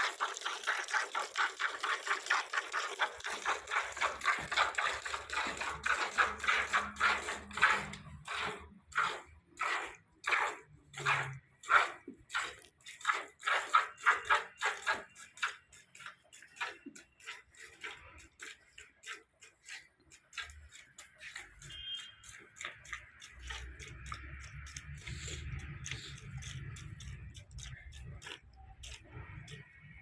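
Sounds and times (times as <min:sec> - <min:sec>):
milk squirting into a pail: 0:00.0 - 0:30.0.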